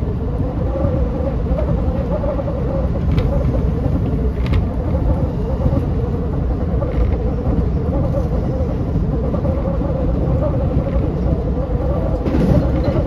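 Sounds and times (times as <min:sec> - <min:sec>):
electric train rumble: 0:00.0 - 0:13.0.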